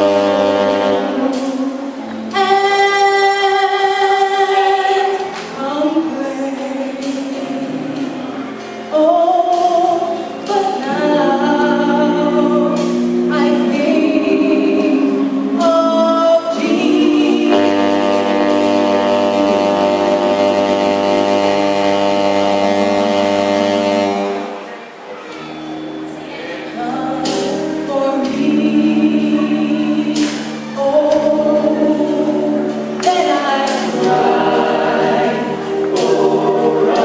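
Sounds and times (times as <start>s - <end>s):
voices singing a hymn: 0.0s - 24.7s, 25.4s - 37.0s.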